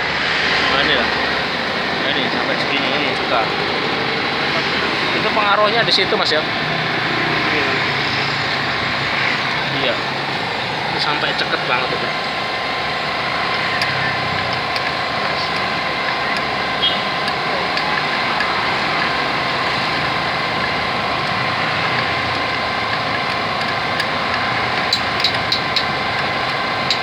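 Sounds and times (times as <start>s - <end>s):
faint steady whine: 0.0s - 27.0s
small engine idling: 0.4s - 27.0s.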